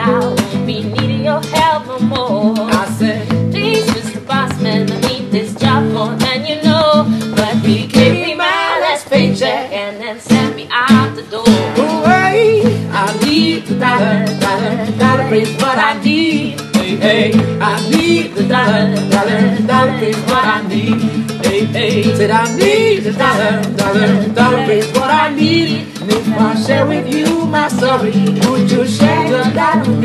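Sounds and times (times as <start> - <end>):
acoustic guitar strumming: 0.0 - 30.0
voices singing wordless runs: 0.5 - 30.0.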